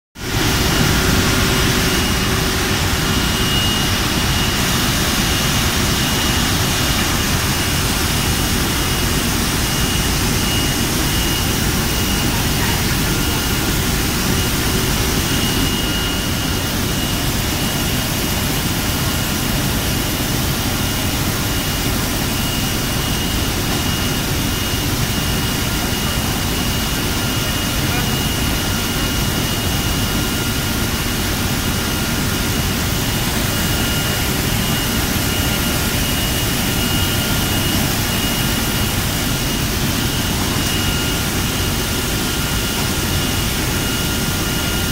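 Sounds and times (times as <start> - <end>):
bottling line machinery: 0.2 - 44.9
faint high whine: 0.2 - 44.9.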